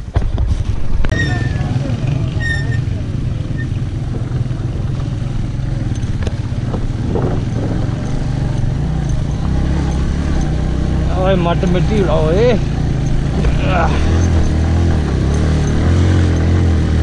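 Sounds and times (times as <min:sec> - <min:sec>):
motorcycle engine running: 0:00.0 - 0:17.0
road noise and rattle: 0:00.0 - 0:17.0.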